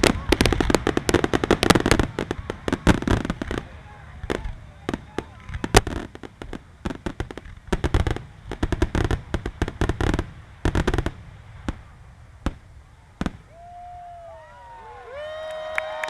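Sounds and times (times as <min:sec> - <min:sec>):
fireworks explosions: 0:00.0 - 0:16.0.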